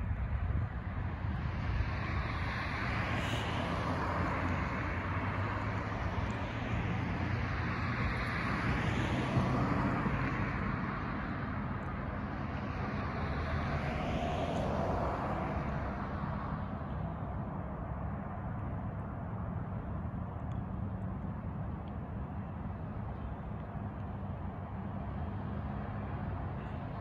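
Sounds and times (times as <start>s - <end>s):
cars passing on street: 0.0s - 27.0s.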